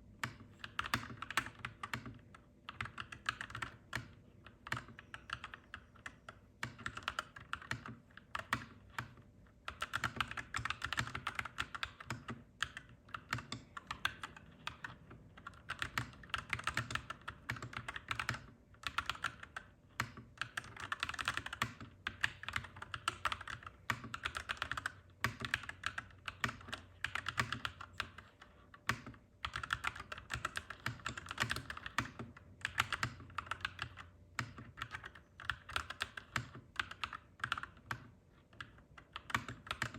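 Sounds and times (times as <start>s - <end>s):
mechanical keyboard typing: 0.2s - 39.9s.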